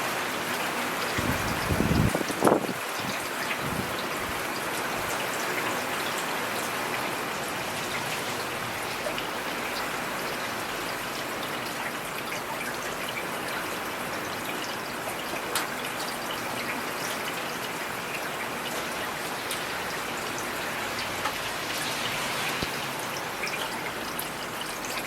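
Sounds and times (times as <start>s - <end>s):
steady rainfall hiss: 0.0s - 25.0s.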